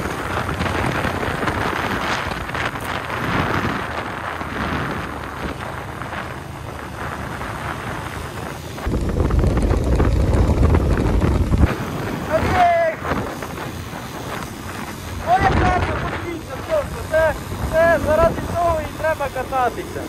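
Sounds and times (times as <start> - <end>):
motorcycle running: 0.0 - 20.0
wind buffeting microphone: 0.0 - 20.0.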